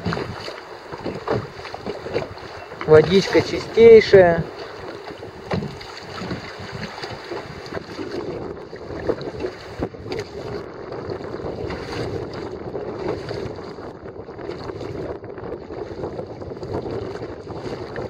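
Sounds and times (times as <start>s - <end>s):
oars rowing in water: 0.0s - 18.0s
water sloshing against hull: 0.0s - 18.0s
wind buffeting microphone: 0.0s - 18.0s.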